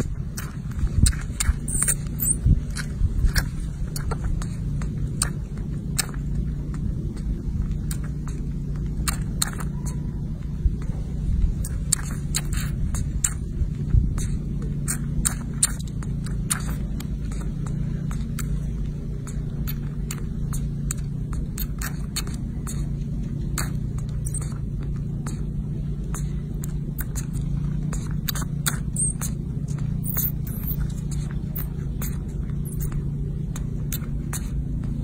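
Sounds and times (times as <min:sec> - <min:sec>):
baby monkey sucking bottle: 0:00.0 - 0:10.2, 0:10.8 - 0:35.0
low hum: 0:00.0 - 0:35.0
mouth clicks and smacks: 0:00.0 - 0:35.0.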